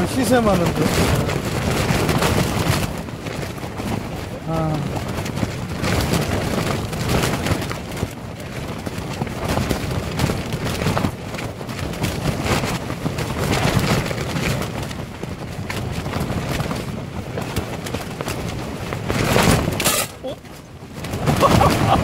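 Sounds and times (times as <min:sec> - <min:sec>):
strong gusting wind: 0:00.0 - 0:22.0
tent fabric flapping and rattling: 0:00.0 - 0:22.0.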